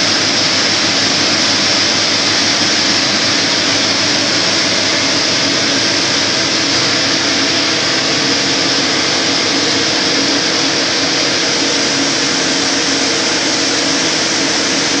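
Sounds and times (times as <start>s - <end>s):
lathe running: 0.0s - 15.0s.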